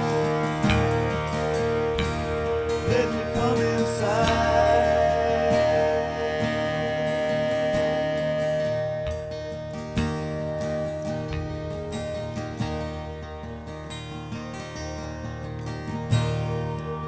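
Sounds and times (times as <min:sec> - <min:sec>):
country-rock guitars with beat: 0:00.0 - 0:17.0.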